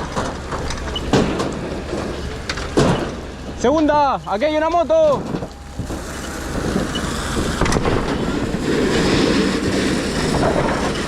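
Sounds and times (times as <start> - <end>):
broad rushing noise: 0.0 - 11.0.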